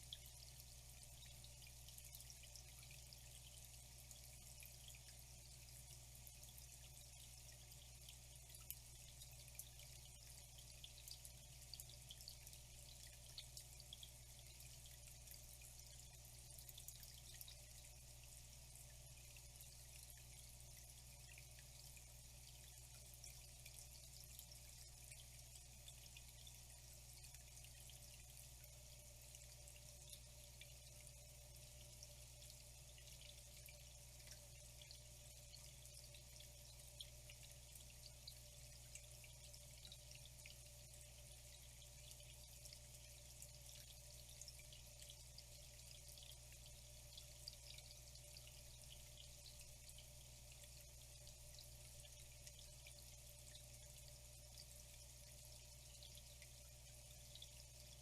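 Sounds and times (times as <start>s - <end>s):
water trickling and dripping: 0.0s - 58.0s.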